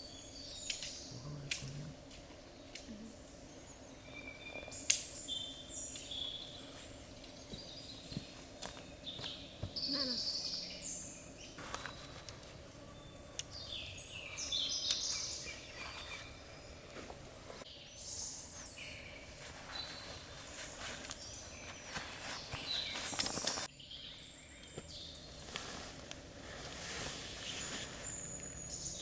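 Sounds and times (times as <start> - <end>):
birds chirping: 0.0 - 26.0, 26.8 - 29.0.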